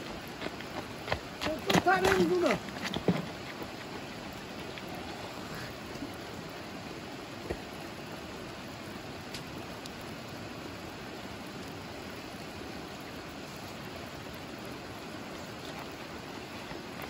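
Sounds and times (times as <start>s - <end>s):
river flowing over stones: 0.0s - 17.0s.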